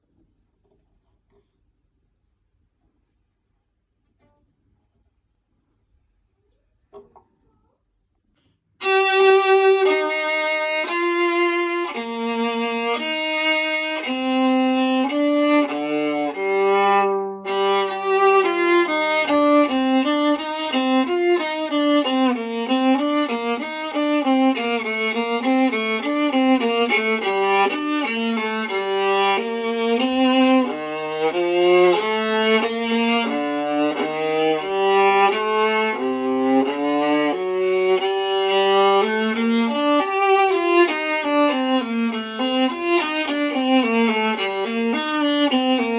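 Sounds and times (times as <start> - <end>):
viola bowed melody: 8.8 - 45.9.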